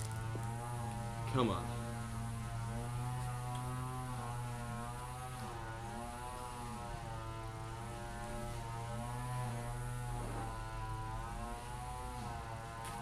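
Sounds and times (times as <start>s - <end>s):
droning hum with overtones: 0.0s - 13.0s.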